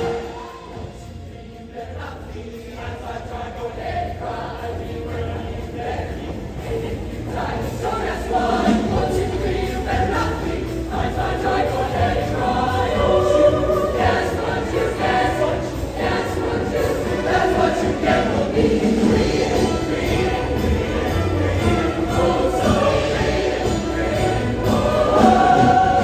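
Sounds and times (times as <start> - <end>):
choir singing: 0.0 - 26.0
instrumental accompaniment: 3.8 - 26.0.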